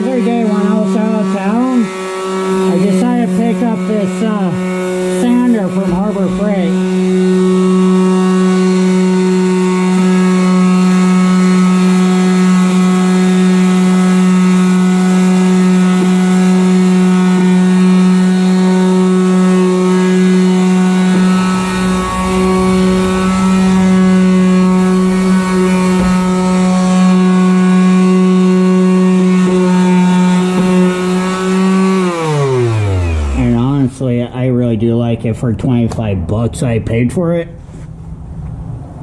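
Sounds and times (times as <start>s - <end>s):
electric sander motor running: 0.0s - 33.9s.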